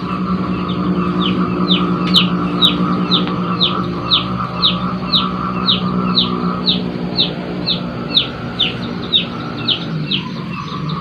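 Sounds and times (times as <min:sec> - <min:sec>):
background hum: 0:00.0 - 0:11.0
bird high falling chirp: 0:00.2 - 0:11.0.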